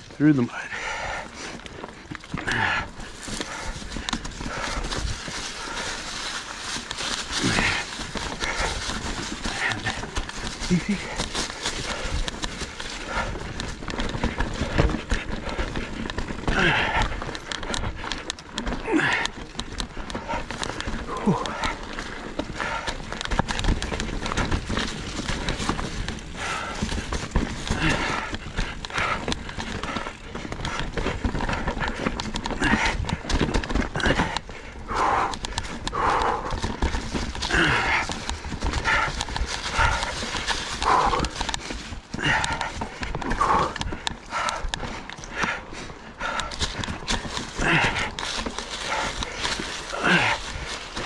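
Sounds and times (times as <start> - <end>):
rider's hard breaths: 0.0 - 51.0
tyre and wind noise: 0.0 - 51.0
bike knocking over rocks: 1.1 - 51.0.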